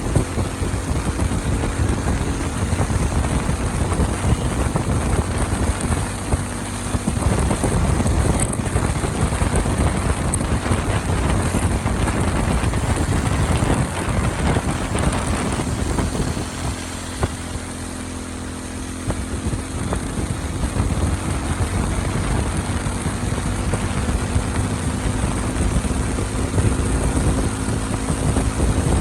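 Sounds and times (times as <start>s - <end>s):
motorcycle engine running: 0.0s - 29.0s
wind rushing over microphone: 0.0s - 29.0s.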